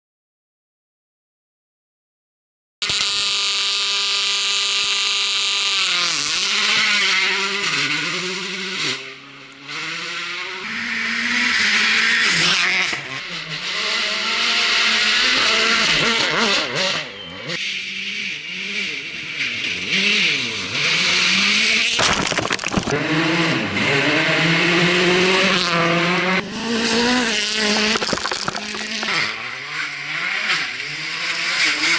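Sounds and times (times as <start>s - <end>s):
rally car engine revving: 2.8s - 31.9s.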